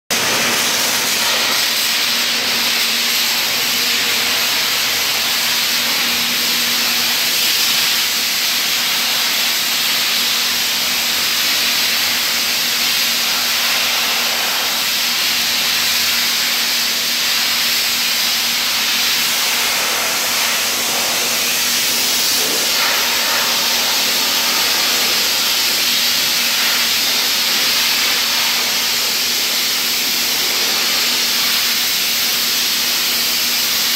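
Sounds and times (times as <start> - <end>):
abrasive blasting nozzle hissing: 0.2 - 33.9.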